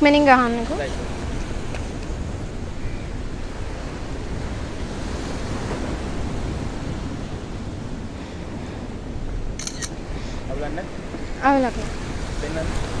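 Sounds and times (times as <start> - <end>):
waves breaking on rocky shore: 0.0 - 13.0
wind rumbling on microphone: 0.0 - 13.0.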